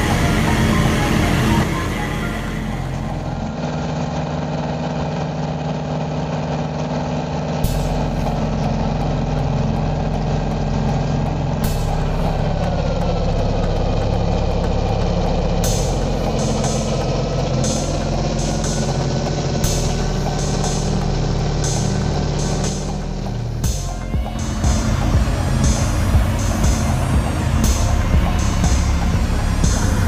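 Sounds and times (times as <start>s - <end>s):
snow blower engine running: 0.0s - 30.0s.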